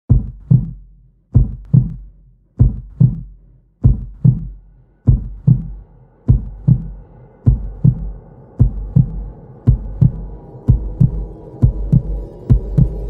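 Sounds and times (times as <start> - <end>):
heartbeat thumps: 0.1 - 13.0.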